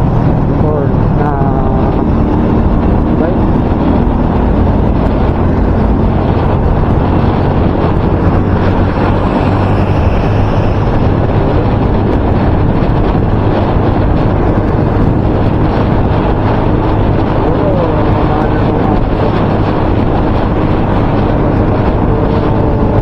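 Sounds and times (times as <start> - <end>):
low hum: 0.0 - 23.0
wind buffeting microphone: 0.0 - 23.0.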